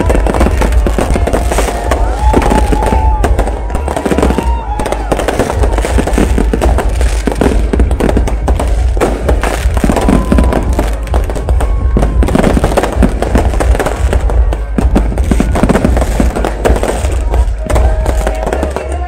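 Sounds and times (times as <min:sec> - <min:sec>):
fireworks bursts and crackles: 0:00.0 - 0:19.0.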